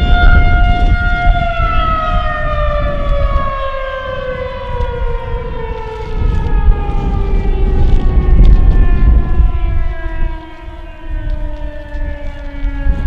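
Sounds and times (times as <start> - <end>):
warning siren winding down: 0.0 - 13.0
wind rumble on microphone: 0.0 - 13.0.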